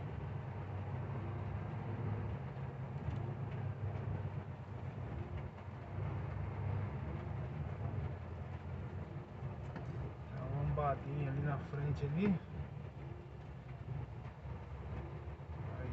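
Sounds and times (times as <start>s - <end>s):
truck diesel engine droning: 0.0s - 15.9s
tyres on wet road: 0.0s - 15.9s.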